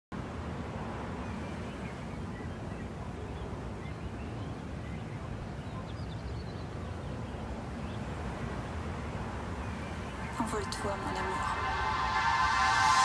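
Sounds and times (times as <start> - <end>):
low city rumble: 0.1 - 13.0
faint bird chirps: 1.2 - 12.2.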